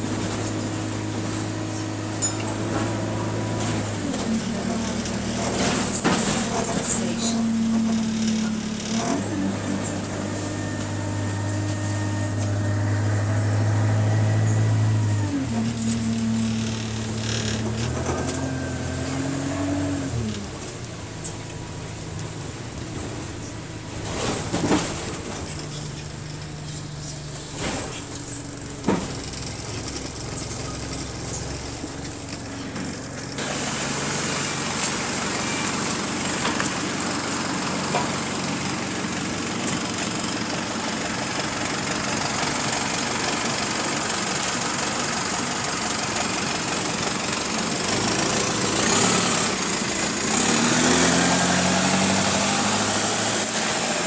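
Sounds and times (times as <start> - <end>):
bus engine: 0.0 - 54.0
road noise: 0.0 - 54.0.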